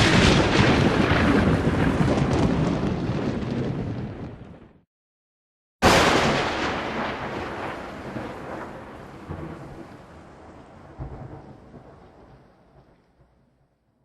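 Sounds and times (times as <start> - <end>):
thunder crack: 0.0 - 4.8, 5.8 - 12.9
thunder rumbling: 0.0 - 4.8, 5.8 - 13.3.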